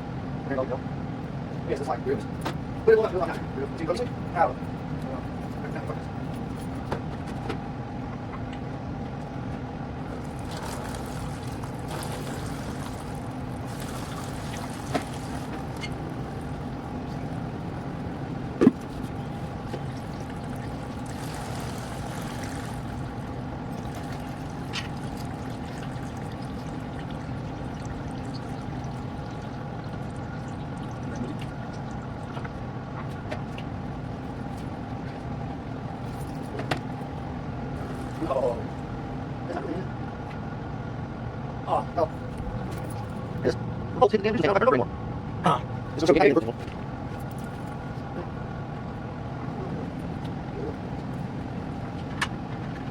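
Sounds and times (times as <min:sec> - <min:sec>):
steady machine hum: 0:00.0 - 0:52.9.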